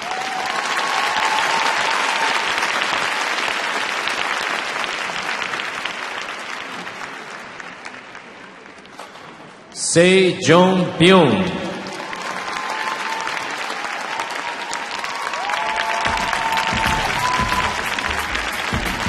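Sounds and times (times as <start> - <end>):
audience applauding: 0.0 - 9.0, 11.7 - 19.0.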